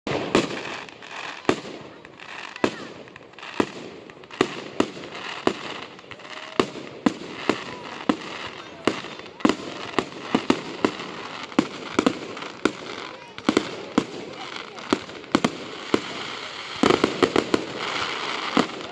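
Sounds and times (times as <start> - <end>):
fireworks bangs: 0.1 - 18.9
fireworks hiss and crackle: 0.1 - 18.9.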